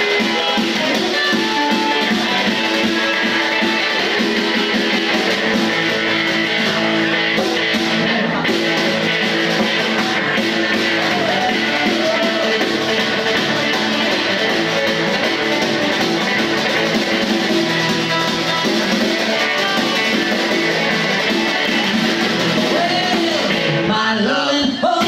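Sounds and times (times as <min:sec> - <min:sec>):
electric guitar: 0:00.0 - 0:25.0.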